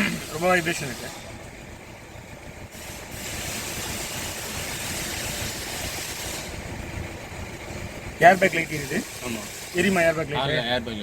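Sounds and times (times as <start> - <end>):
diesel engine idling roughly: 0.0 - 11.0.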